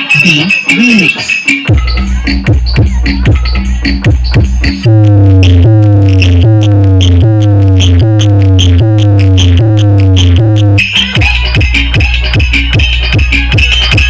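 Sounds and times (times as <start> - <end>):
electronic dance music: 0.0 - 14.0.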